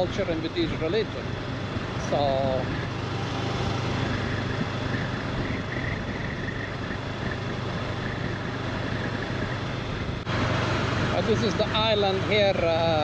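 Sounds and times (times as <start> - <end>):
motorcycle engine hum: 0.0 - 13.0
wind and road noise: 0.0 - 13.0.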